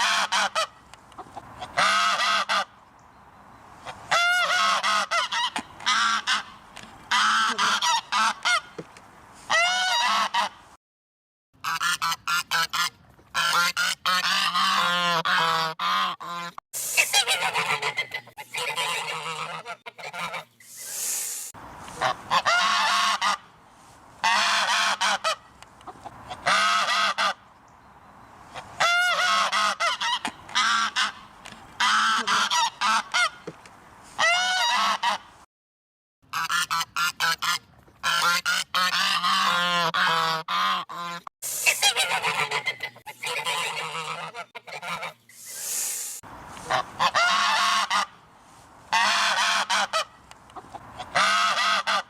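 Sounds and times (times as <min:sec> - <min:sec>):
geese honking: 0:00.0 - 0:02.8, 0:03.8 - 0:08.8, 0:09.5 - 0:10.6, 0:11.6 - 0:20.6, 0:21.9 - 0:23.5, 0:24.2 - 0:27.4, 0:28.5 - 0:33.4, 0:34.2 - 0:35.3, 0:36.3 - 0:45.3, 0:46.6 - 0:48.2, 0:48.9 - 0:52.0.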